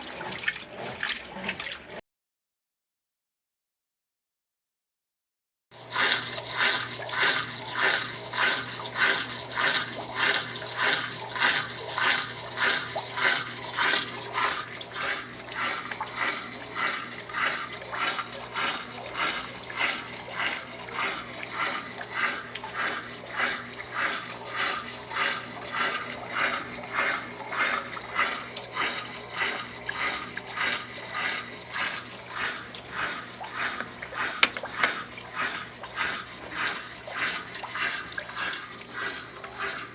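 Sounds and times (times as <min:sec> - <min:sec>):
washing machine motor hum: 0:00.0 - 0:02.0, 0:05.7 - 0:39.9
water and clothes sloshing: 0:00.0 - 0:02.0, 0:05.8 - 0:39.9.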